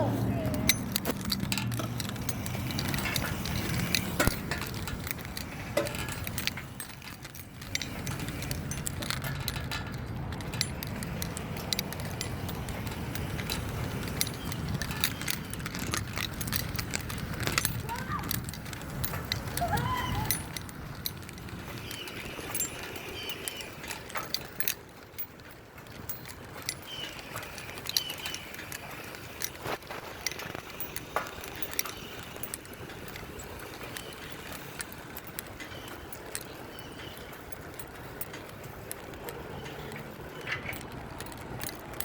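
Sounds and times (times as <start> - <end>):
bicycle clicks and rattles: 0.0 - 42.0
tyre and wind hiss: 0.0 - 42.0.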